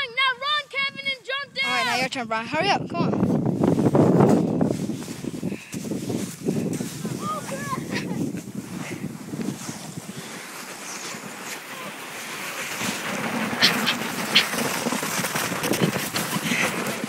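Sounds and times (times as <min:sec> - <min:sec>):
wind noise on microphone: 0:00.8 - 0:11.4, 0:12.4 - 0:17.0
person sliding on snow: 0:03.2 - 0:17.0.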